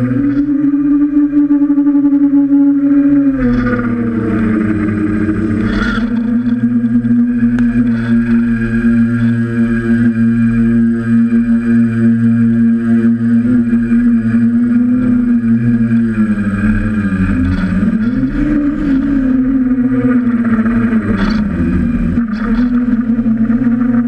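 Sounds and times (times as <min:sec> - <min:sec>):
drone motors buzzing: 0:00.0 - 0:24.0.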